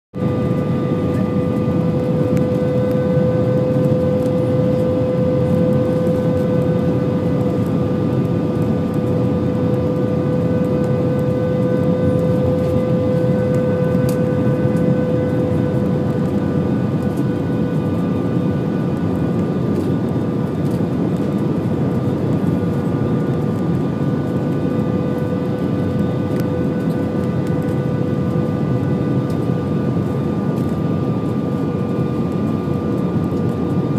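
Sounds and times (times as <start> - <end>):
airplane cabin rush and engine noise: 0.2 - 33.9
steady hum: 0.2 - 33.9.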